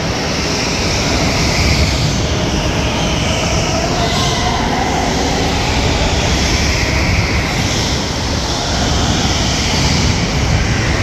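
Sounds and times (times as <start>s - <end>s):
din of karts running: 0.0s - 11.0s.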